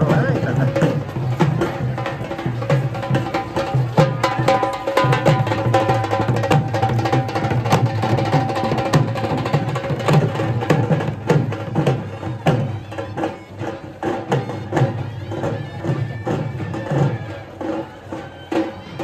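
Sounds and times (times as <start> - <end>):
drums beating a rhythm: 0.0 - 19.0.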